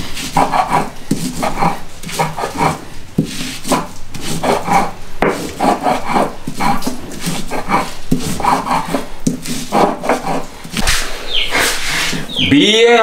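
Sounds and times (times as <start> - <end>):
stone grinding on stone: 0.0 - 12.3.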